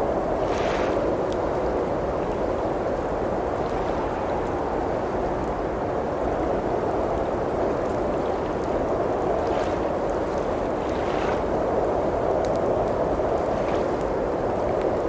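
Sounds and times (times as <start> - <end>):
blizzard wind rushing: 0.0 - 15.0
wood fire crackling: 0.0 - 15.0.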